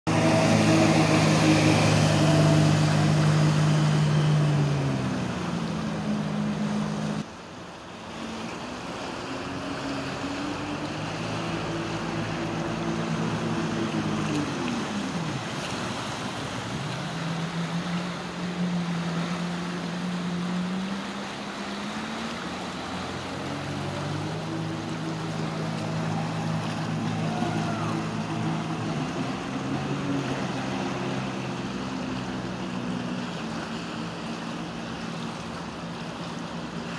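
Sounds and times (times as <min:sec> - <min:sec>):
jet ski engine drone: 0:00.1 - 0:36.9.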